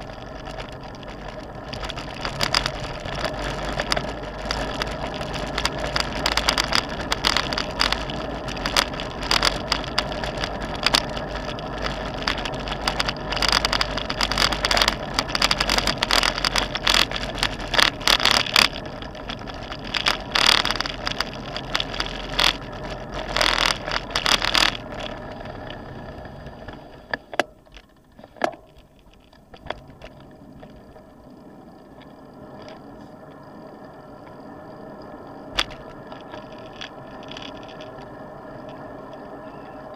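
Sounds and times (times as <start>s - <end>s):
bike rattling and clicking: 0.0s - 39.9s
road noise: 0.0s - 39.9s
wind rumble: 0.0s - 39.9s.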